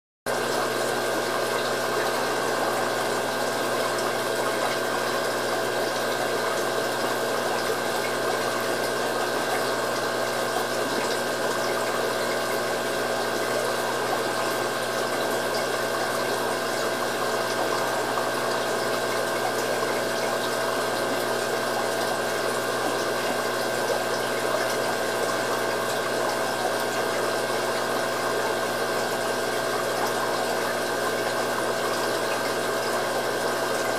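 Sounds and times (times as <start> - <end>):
aquarium pump humming: 0.3 - 33.9
water noise: 0.3 - 33.9.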